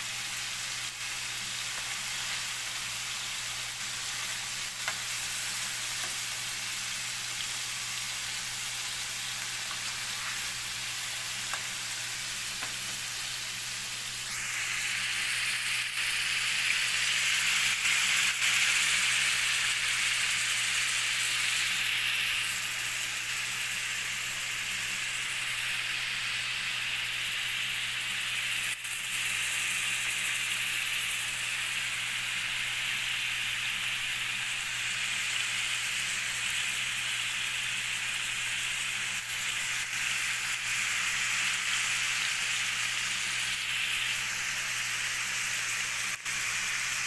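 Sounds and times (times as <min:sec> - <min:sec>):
cutlets sizzling in oil: 0:00.0 - 0:47.0.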